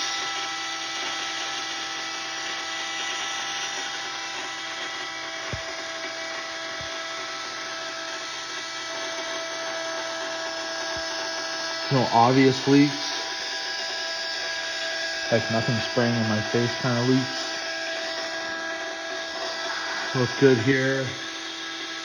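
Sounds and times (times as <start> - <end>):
electric fuel pump whining: 0.0 - 22.0.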